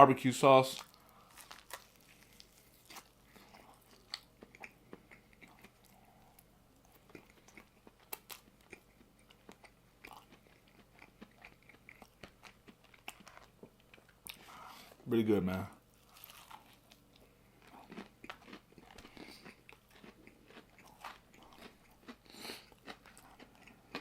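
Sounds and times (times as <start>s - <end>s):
close-up chewing: 0.8s - 14.9s, 15.9s - 24.0s.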